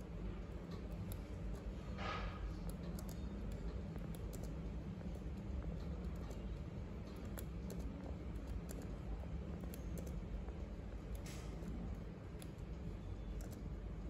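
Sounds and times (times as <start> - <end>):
laptop keys clicking: 0.0 - 1.8, 2.4 - 14.0
steady low hum: 0.0 - 14.0.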